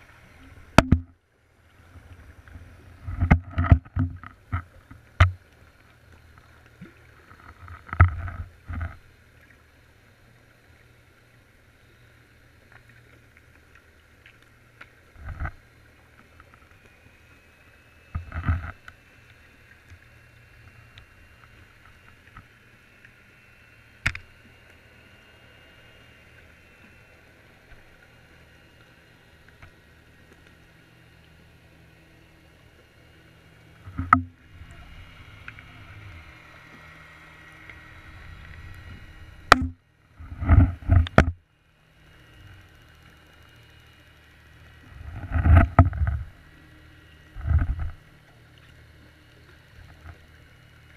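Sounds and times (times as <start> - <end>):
low underwater hum: 0.0 - 50.9.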